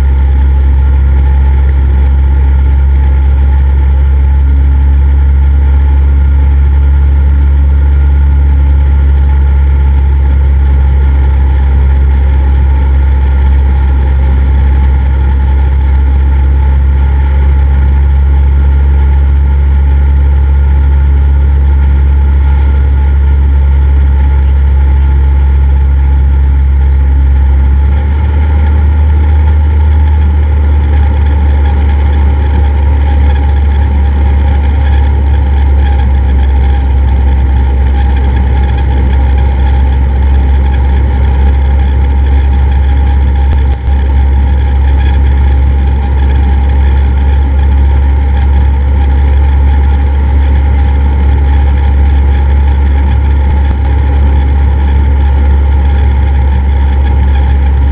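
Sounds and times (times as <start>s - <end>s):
light aircraft engine drone: 0.0s - 57.9s.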